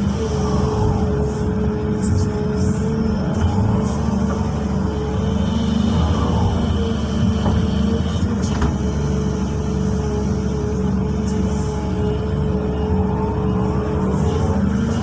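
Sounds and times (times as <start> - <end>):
excavator diesel engine running: 0.0 - 15.0
steady hydraulic whine: 0.0 - 15.0.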